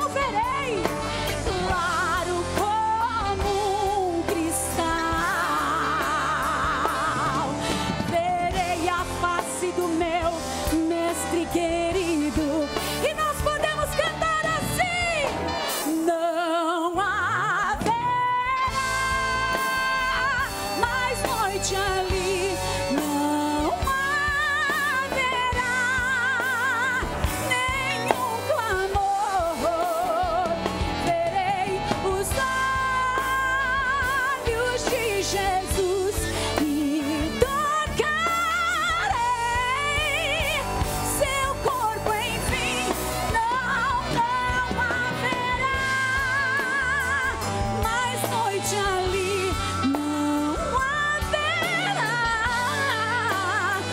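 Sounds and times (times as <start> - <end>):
orchestra playing: 0.0 - 53.9
woman singing: 0.0 - 53.9.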